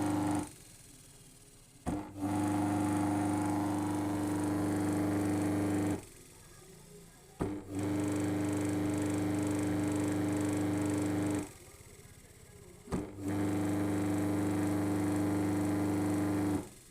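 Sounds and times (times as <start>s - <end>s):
washing machine motor humming: 0.0s - 16.9s.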